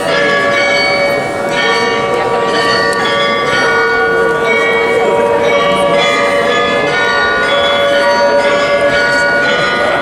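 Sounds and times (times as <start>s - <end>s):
carillon bells playing a tune: 0.0s - 10.0s.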